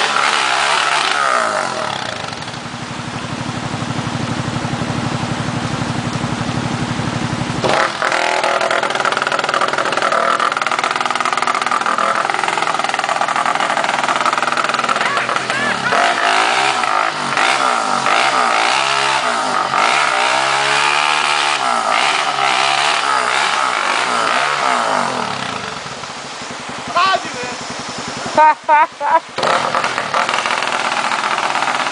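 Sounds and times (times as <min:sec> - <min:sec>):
quad bike engine revving: 0:00.0 - 0:31.9.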